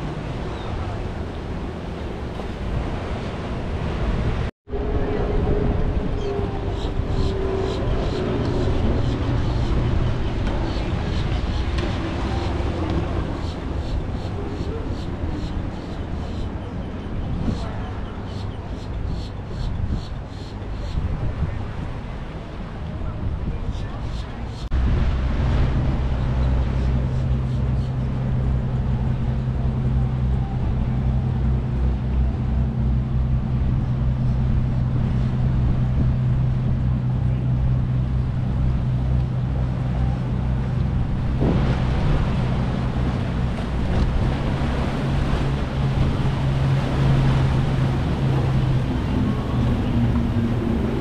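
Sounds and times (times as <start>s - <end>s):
motorboat engines droning: 0.0s - 51.0s
rushing water: 0.0s - 51.0s
wind: 0.0s - 51.0s.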